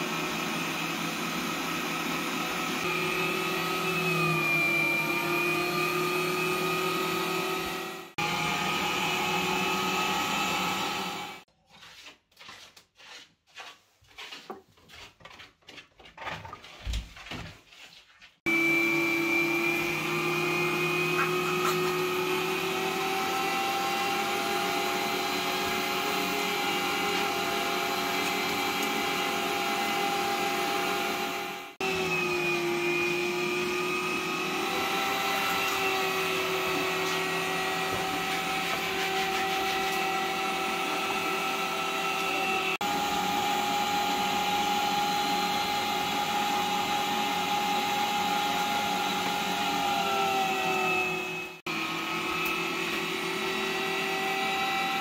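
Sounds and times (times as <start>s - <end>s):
meat grinder motor running: 0.0s - 11.4s, 18.5s - 55.0s.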